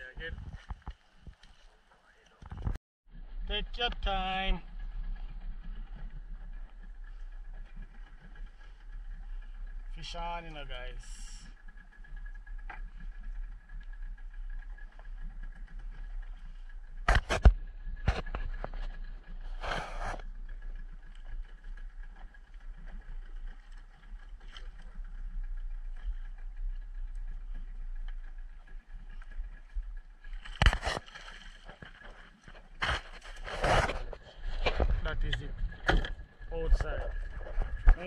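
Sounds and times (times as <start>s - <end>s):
boat engine running: 2.4s - 38.0s.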